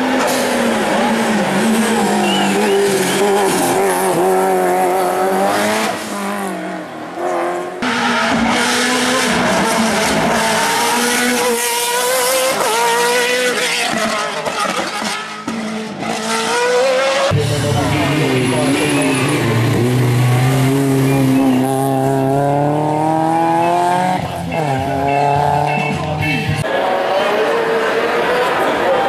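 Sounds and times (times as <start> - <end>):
race car engines at high revs: 0.0 - 26.1, 26.7 - 29.0.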